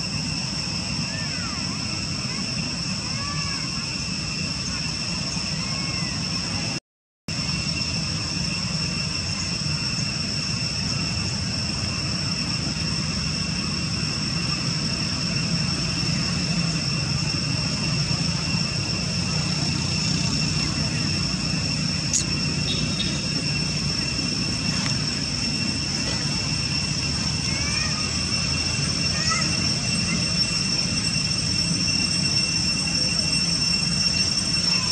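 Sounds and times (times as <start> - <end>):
high-pitched whine: 0.0 - 34.9.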